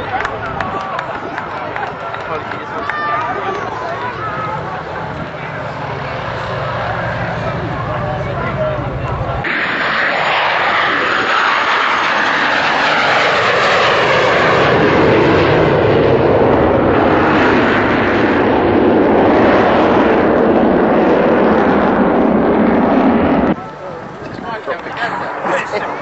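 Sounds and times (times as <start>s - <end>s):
aircraft engine rushing past: 0.0s - 26.0s.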